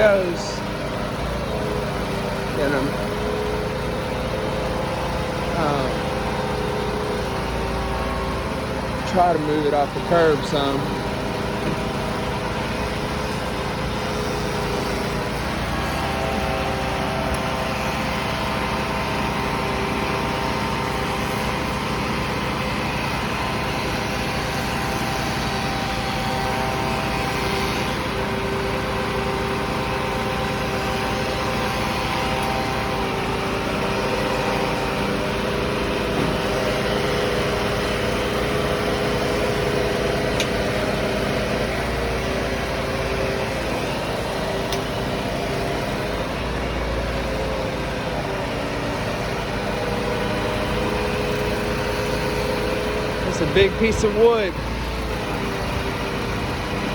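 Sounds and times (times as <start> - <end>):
heavy equipment engine running: 0.0 - 56.9.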